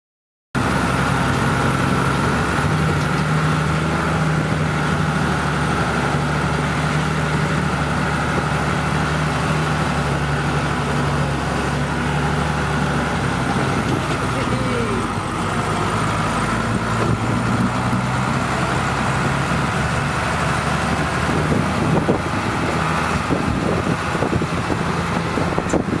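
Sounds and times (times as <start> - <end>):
plough blade pushing through snow: 0.6 - 26.0
tractor diesel engine under load: 0.6 - 26.0.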